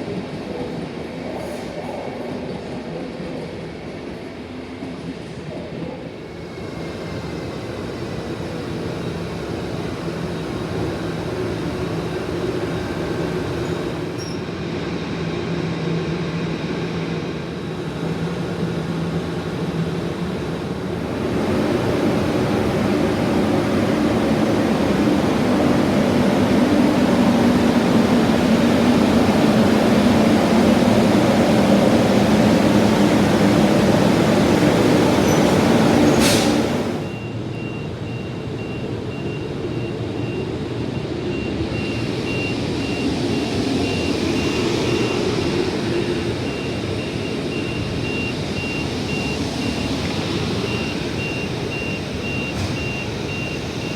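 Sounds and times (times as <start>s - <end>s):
train rumbling through station: 0.0s - 53.9s.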